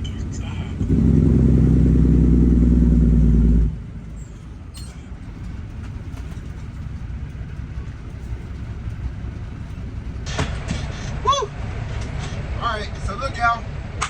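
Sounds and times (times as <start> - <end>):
diesel engine rumbling: 0.0 - 14.0
loud steady low drone: 0.0 - 14.0.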